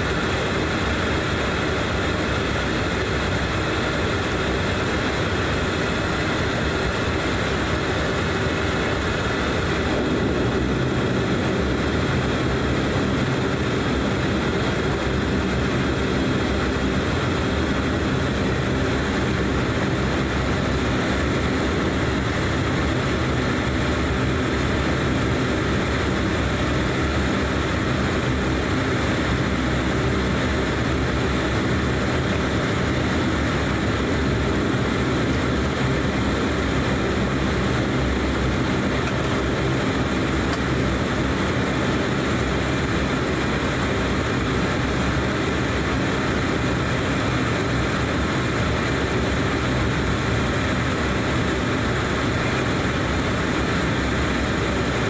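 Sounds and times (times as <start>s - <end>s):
turboprop engines droning in cabin: 0.0s - 55.0s.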